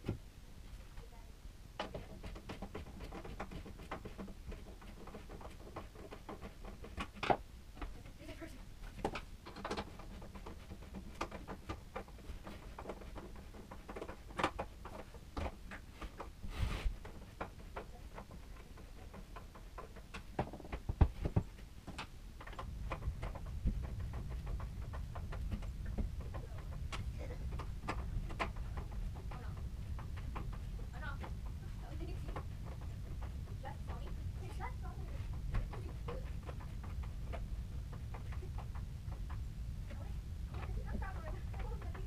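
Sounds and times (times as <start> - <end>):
low steady hum: 0.0 - 42.0
clicks taps and knocks: 1.8 - 8.2, 8.8 - 42.0.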